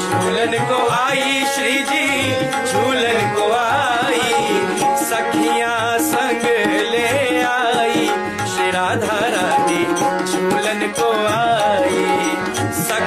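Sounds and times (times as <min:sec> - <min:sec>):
devotional music: 0:00.0 - 0:13.0
tabla drumming: 0:00.0 - 0:13.0.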